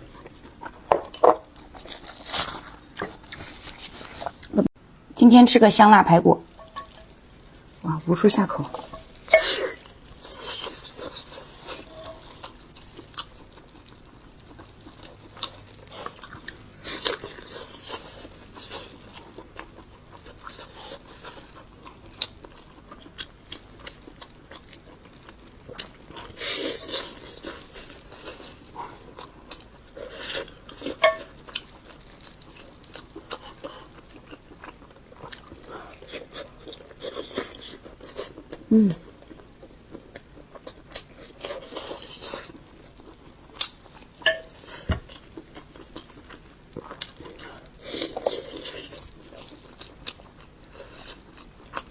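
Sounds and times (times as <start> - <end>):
person chewing meat: 0.0 - 4.6, 8.6 - 51.9.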